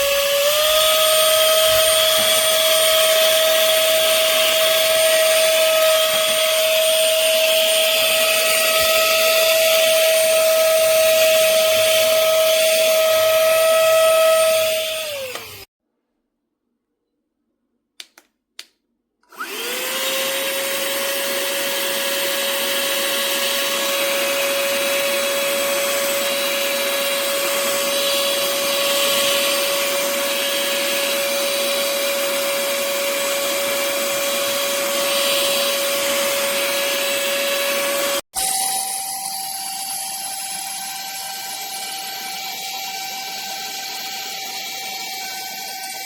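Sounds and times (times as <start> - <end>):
handheld vacuum motor whine: 0.0 - 15.7, 19.3 - 46.0.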